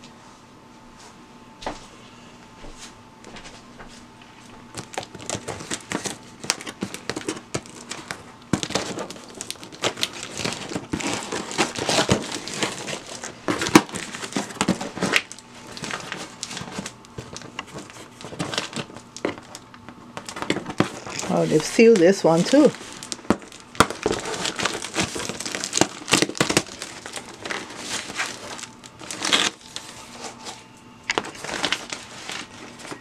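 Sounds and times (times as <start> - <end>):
packaging crinkling and rustling: 4.7 - 33.0.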